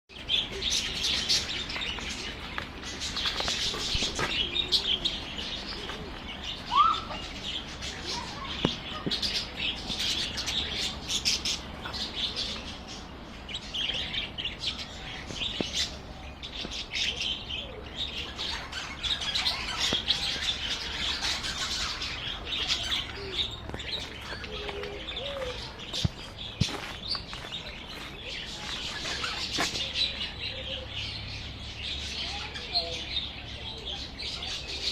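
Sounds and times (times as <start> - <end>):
parakeets chirping and chattering: 0.1 - 34.9.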